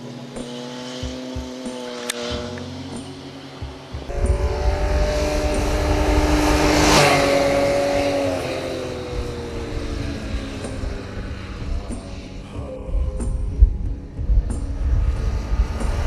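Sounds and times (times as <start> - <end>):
motorcycle passing at speed: 0.0 - 16.0.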